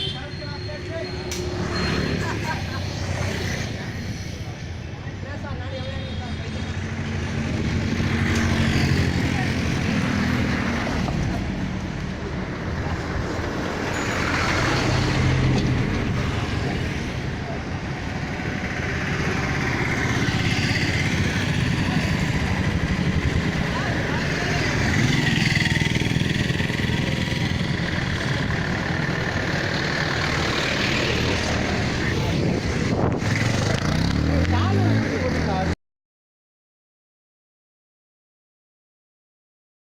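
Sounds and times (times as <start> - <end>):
passing vehicles: 0.0 - 35.8
road traffic engines rumbling: 0.0 - 35.8.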